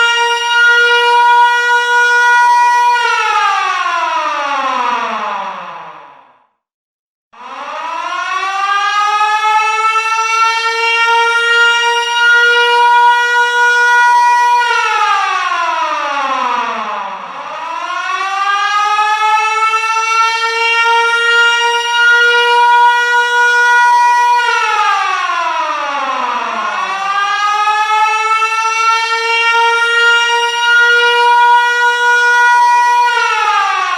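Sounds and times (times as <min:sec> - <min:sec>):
warning siren wailing: 0:00.0 - 0:06.2, 0:07.4 - 0:33.9.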